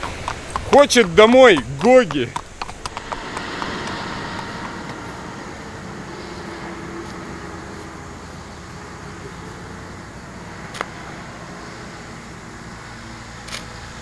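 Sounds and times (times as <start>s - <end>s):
faint low hum: 2.2s - 13.8s.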